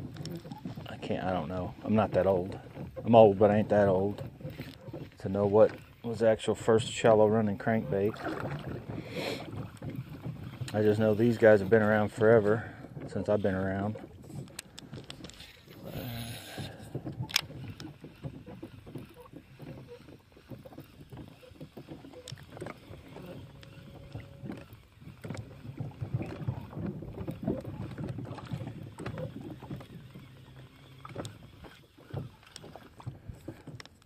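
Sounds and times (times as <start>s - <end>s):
water slapping against boat hull: 0.0s - 34.0s
wind: 0.0s - 34.0s.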